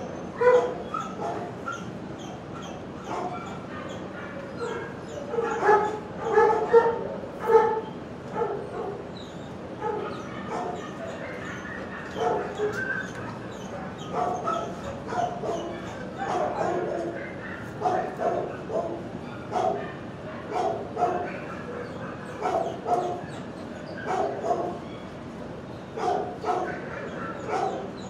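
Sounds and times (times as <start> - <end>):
dogs barking and yipping: 0.0 - 25.2, 25.8 - 28.0.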